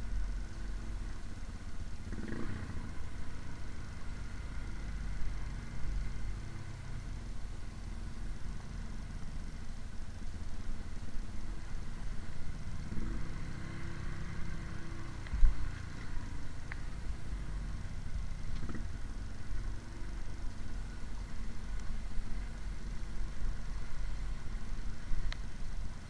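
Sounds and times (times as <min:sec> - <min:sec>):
motorcycle engine rumbling: 0:00.0 - 0:26.0.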